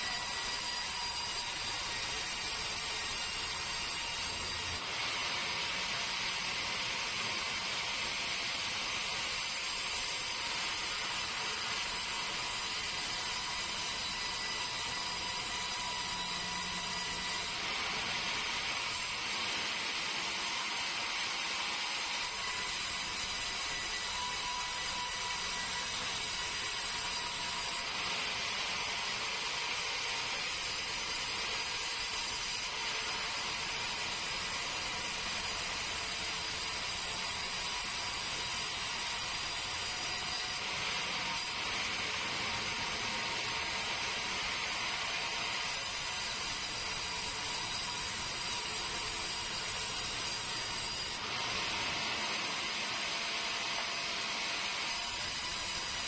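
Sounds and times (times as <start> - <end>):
sawmill saw whine: 0.0 - 56.0.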